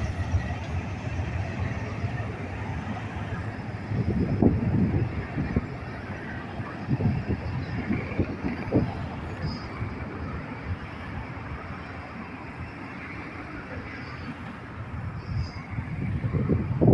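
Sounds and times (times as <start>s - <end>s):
train rumbling past: 0.0s - 16.9s.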